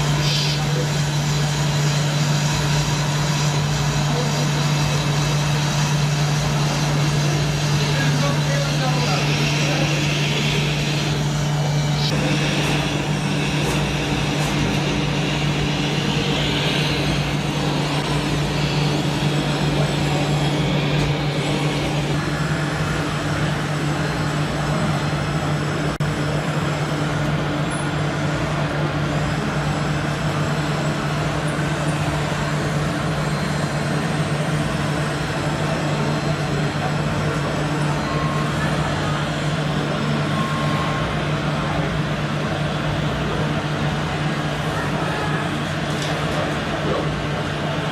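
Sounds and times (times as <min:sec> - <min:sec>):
constant low hum: 0:00.0 - 0:47.9
model truck engine running: 0:00.0 - 0:47.9.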